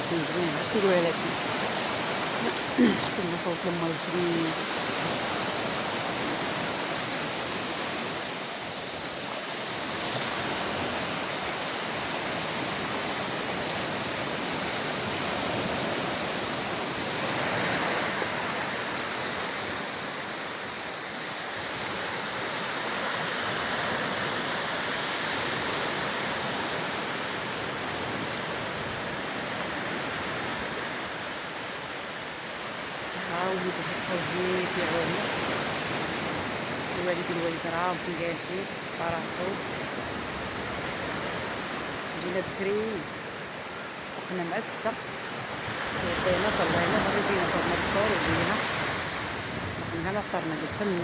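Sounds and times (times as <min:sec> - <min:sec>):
waves washing onto beach: 0:00.0 - 0:51.0.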